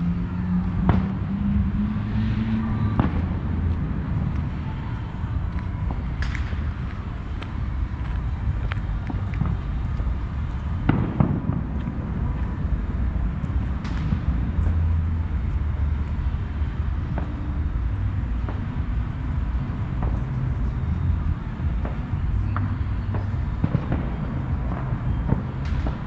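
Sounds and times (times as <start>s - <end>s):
low rumble: 0.0s - 26.0s
fireworks pops and bangs: 0.6s - 26.0s.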